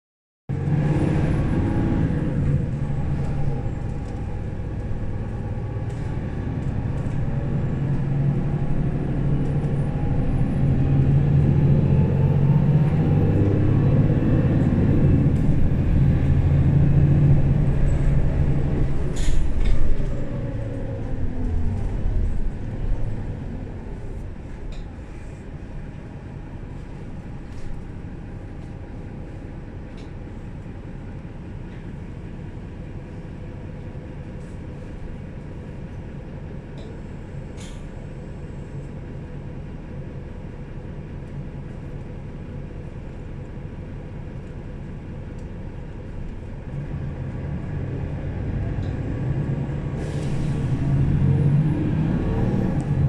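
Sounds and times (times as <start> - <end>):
bus diesel engine running: 0.5 - 53.0.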